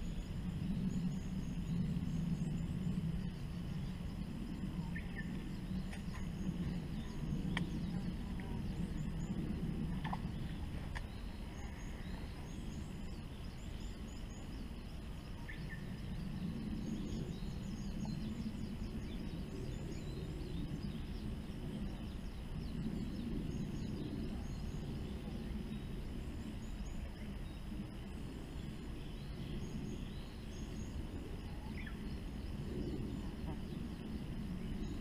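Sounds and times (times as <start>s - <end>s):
low rumbling noise: 0.0s - 35.0s.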